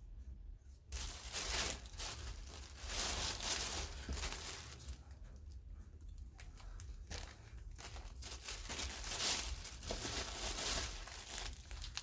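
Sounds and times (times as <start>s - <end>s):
plastic packaging crinkling: 0.9s - 5.1s, 6.4s - 12.0s.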